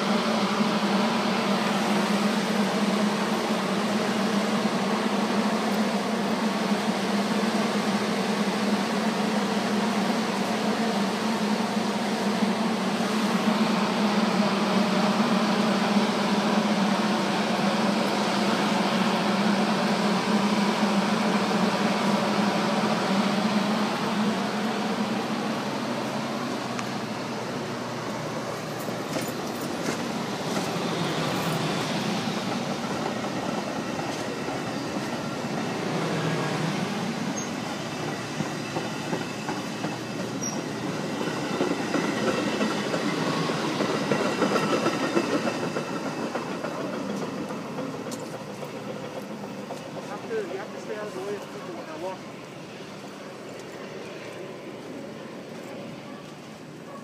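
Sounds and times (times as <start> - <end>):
train cars rolling past: 0.0 - 57.0.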